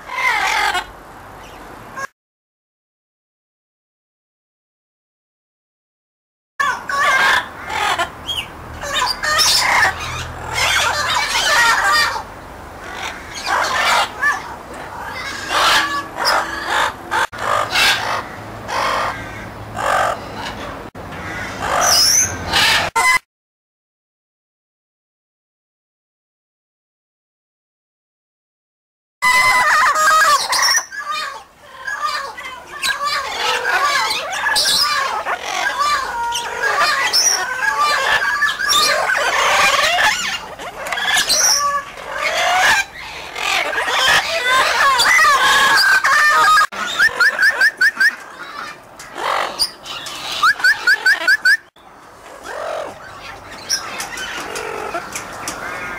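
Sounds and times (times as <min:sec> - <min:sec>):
birds cawing harshly: 0:00.0 - 0:02.1, 0:06.6 - 0:23.2, 0:29.2 - 0:55.9
parrots squawking and chattering: 0:00.0 - 0:02.1, 0:06.6 - 0:23.2, 0:29.2 - 0:55.9.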